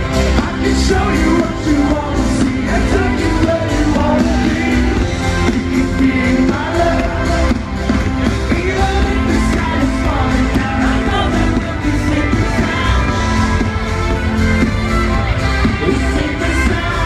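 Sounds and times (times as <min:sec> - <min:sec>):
live band playing synth-pop: 0:00.0 - 0:17.0
person singing: 0:00.0 - 0:17.0
steady driving beat: 0:00.0 - 0:17.0.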